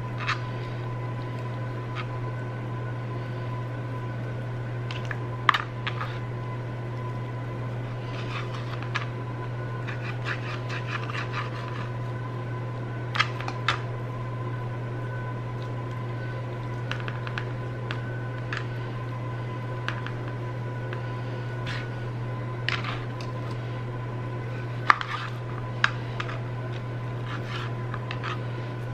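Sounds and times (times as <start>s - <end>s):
low hum with faint whine: 0.0s - 28.9s.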